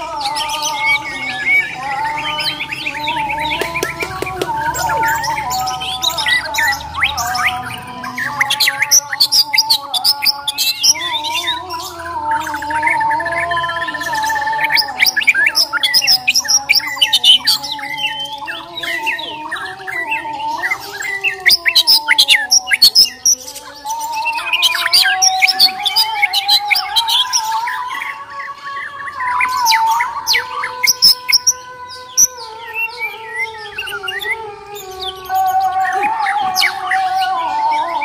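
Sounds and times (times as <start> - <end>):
bird singing whistles and trills: 0.0 - 38.0.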